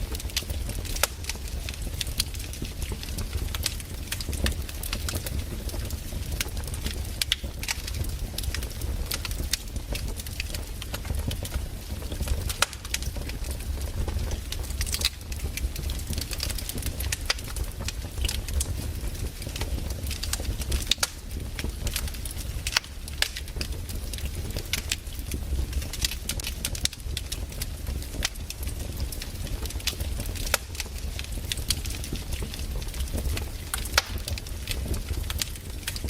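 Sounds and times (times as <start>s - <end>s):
firewood crackling: 0.0s - 36.0s.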